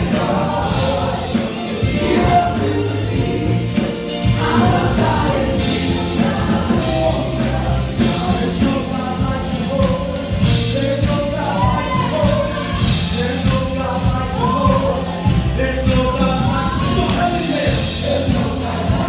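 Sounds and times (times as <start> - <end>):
band with bass and drums: 0.0 - 19.0
gospel choir singing: 0.0 - 19.0.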